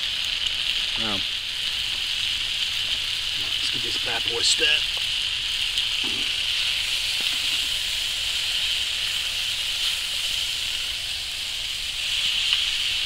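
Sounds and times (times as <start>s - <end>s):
vegetables sizzling in pan: 0.0s - 13.0s.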